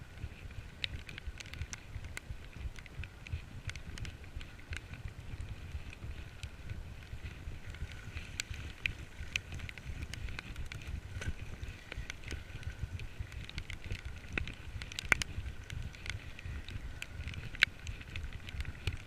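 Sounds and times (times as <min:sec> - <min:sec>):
sharp ticks and clicks: 0:00.0 - 0:19.0
wind rumble on microphone: 0:00.0 - 0:19.0.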